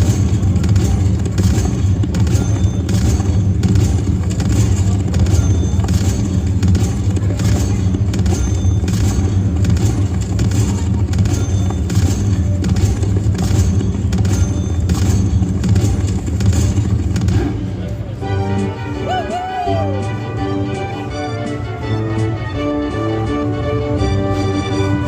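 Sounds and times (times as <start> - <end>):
slot machine electronic music: 0.0 - 25.0.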